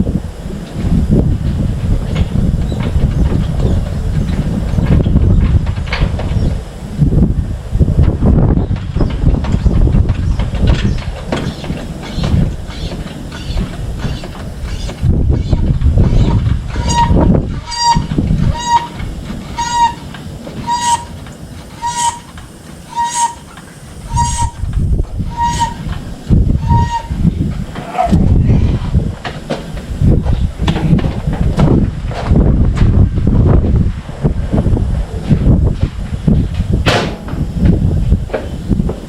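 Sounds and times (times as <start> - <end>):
loud uneven rumbling: 0.0 - 39.0.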